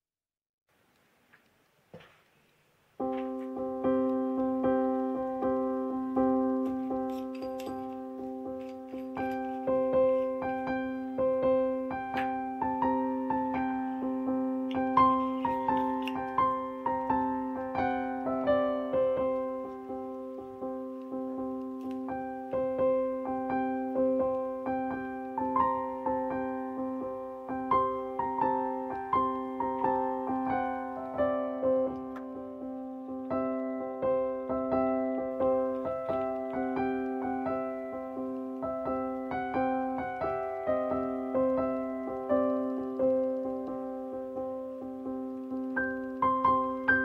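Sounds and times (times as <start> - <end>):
slow piano music: 2.9 - 47.0.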